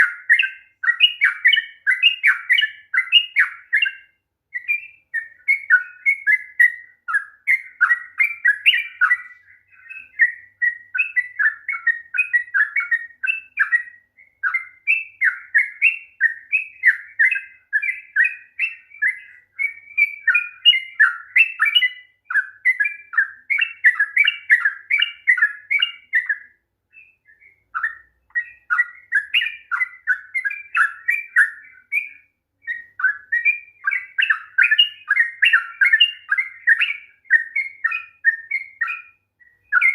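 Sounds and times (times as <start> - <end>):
bird singing chattering notes: 0.0 - 4.0, 4.6 - 39.9.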